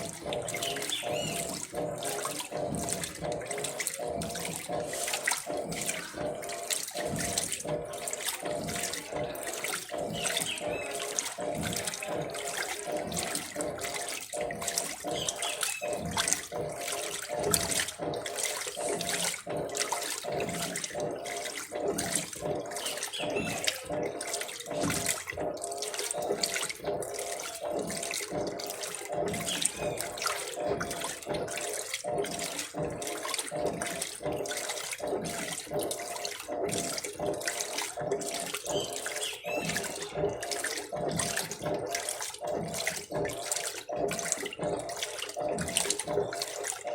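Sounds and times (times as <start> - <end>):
water pouring into washing machine: 0.0 - 46.9.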